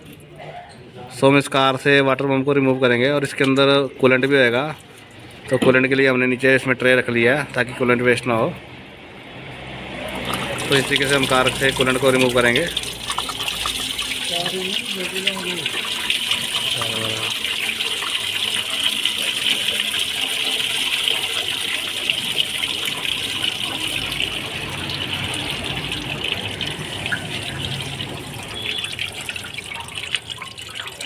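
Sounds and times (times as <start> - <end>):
coolant gushing into drain tray: 3.2 - 8.0, 9.2 - 31.0.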